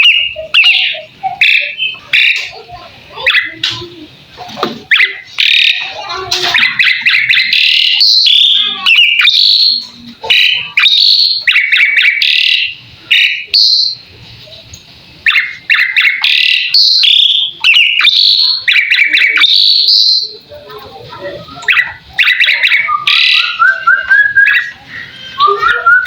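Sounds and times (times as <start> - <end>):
starling chattering and whistling: 0.0 - 26.0.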